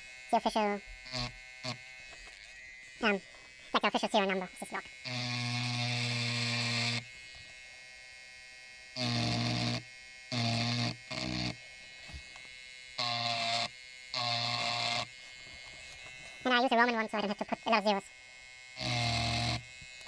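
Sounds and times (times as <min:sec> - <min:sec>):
electric engraving pen buzzing: 0:00.0 - 0:20.0.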